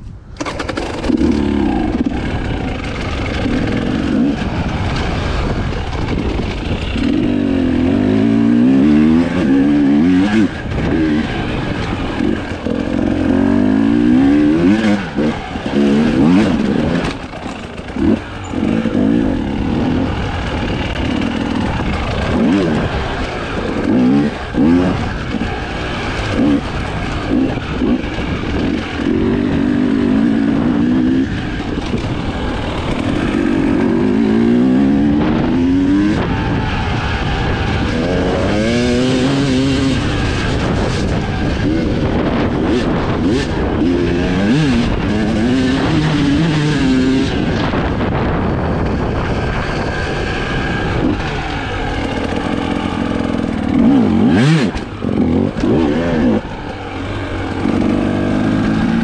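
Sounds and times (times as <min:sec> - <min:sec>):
motorcycle engine revving: 0:00.2 - 0:59.0.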